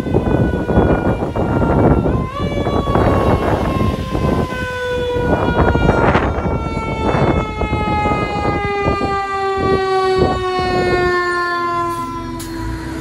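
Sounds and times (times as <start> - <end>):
fire truck siren falling in pitch: 0.0 - 13.0
fire trucks rumbling: 0.0 - 13.0.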